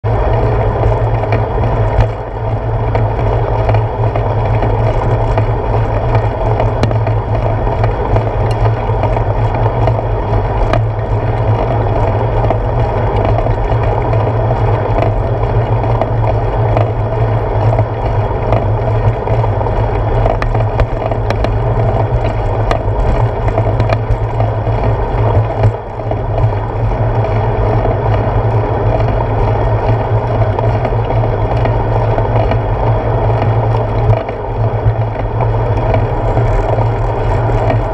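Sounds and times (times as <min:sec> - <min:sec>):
bicycle tyres rumbling on road: 0:00.0 - 0:37.9
small clicks and rattles: 0:00.1 - 0:37.9.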